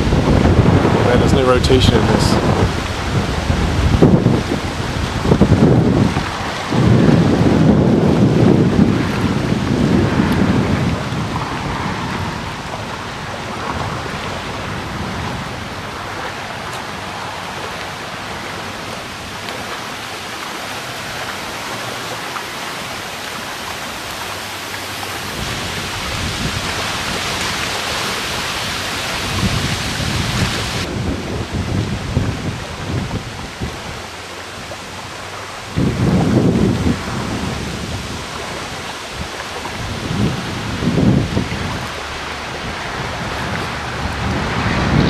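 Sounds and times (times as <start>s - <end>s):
thunder rumbling: 0.0s - 18.9s, 25.0s - 34.2s, 35.2s - 38.9s, 39.7s - 45.0s
wind and rain hiss: 0.0s - 45.0s.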